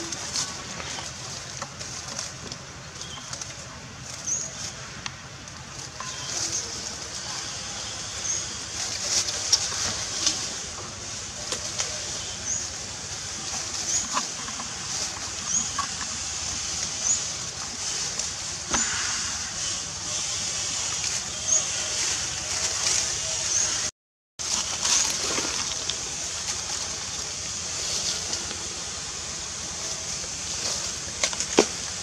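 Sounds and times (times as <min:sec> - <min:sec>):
high-pitched hiss: 0:03.0 - 0:32.0.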